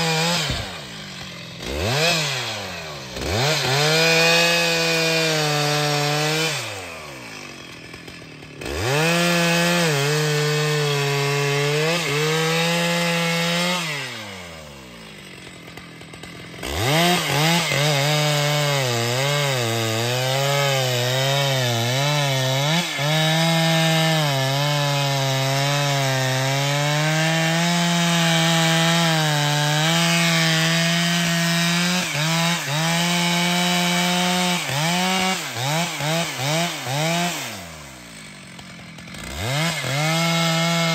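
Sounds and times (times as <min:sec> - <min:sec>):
chainsaw cutting a log: 0:00.0 - 0:40.9.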